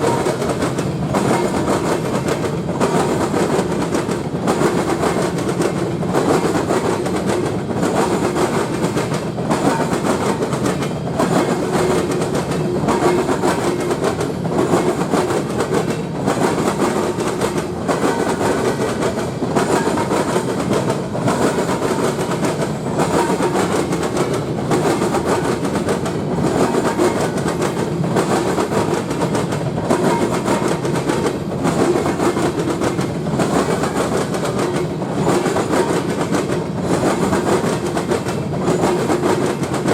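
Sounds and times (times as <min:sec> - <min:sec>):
train cars rumbling: 0:00.0 - 0:39.9
wheels clattering over rail joints: 0:00.0 - 0:39.9.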